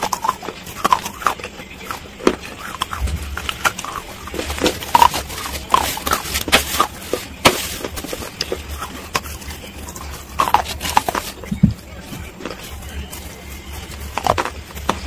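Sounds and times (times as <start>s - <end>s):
crunching and chewing: 0.0s - 15.0s.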